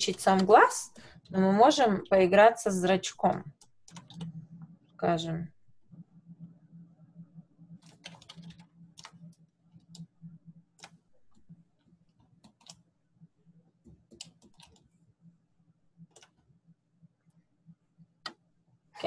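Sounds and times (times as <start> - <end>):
steady low hum: 3.2 - 18.9.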